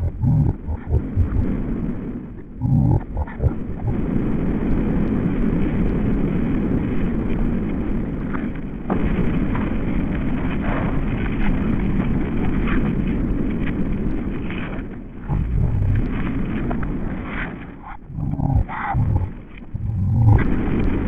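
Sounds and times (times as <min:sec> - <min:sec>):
low wind rush through leaves: 0:00.0 - 0:21.0.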